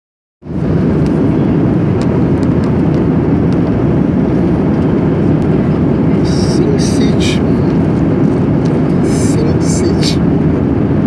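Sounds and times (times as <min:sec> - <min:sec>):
jet airliner cabin rumble: 0:00.4 - 0:11.0.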